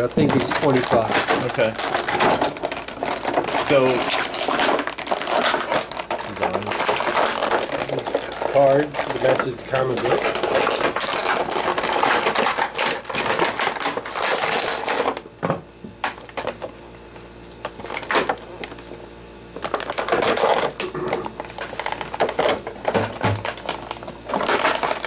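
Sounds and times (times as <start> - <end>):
packaging rustling and crinkling: 0.0 - 15.3, 16.0 - 25.0.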